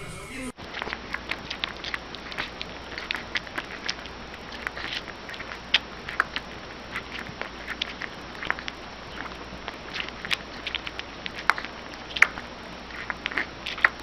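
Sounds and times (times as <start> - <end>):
puppy suckling from a bottle: 0.6 - 14.0.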